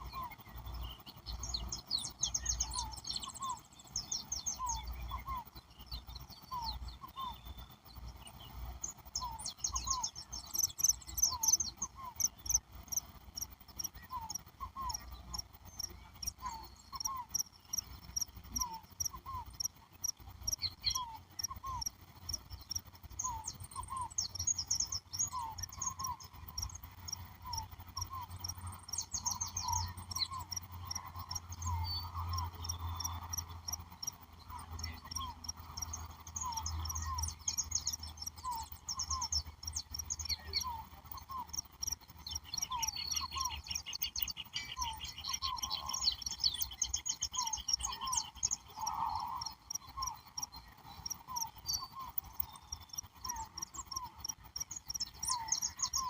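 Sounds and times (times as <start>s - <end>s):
crickets chirping: 0.0s - 56.0s
high fast insect chirping: 0.0s - 56.0s.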